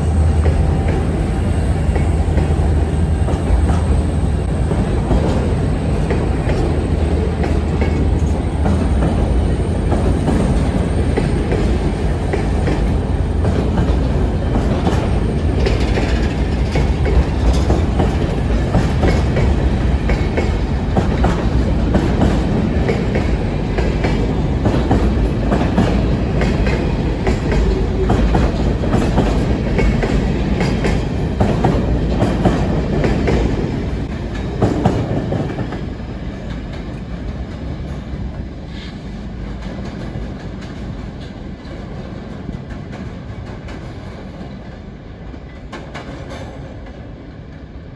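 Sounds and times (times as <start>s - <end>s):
freight train rumbling: 0.0s - 47.9s
wheels clickety-clack on rail joints: 0.0s - 47.9s.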